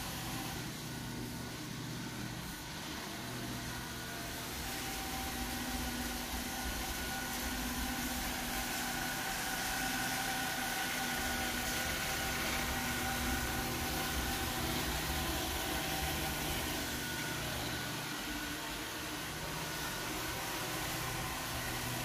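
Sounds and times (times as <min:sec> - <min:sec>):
robot vacuum whirring: 0:00.0 - 0:22.0.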